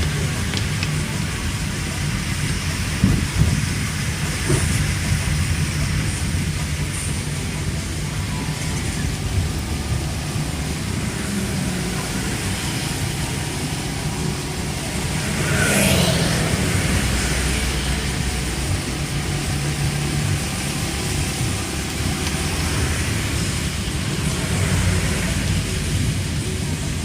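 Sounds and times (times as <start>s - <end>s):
car engine and road rumble: 0.0s - 27.0s
rain and wet tyres hissing: 0.0s - 27.0s.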